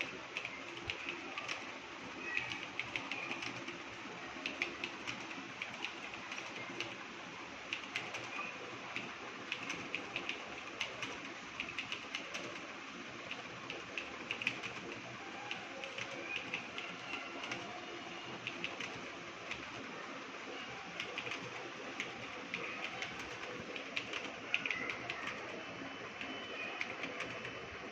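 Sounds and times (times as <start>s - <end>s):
keyboard typing: 0.0s - 7.0s, 7.7s - 19.9s, 20.9s - 27.9s.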